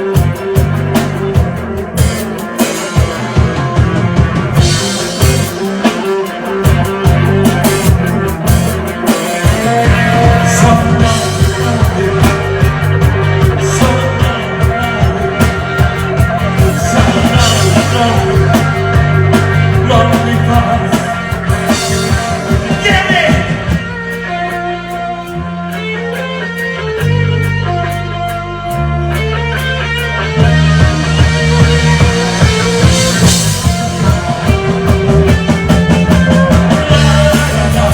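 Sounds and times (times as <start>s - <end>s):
bass guitar: 0.0s - 37.9s
drum kit: 0.0s - 37.9s
electric guitar: 0.0s - 37.9s.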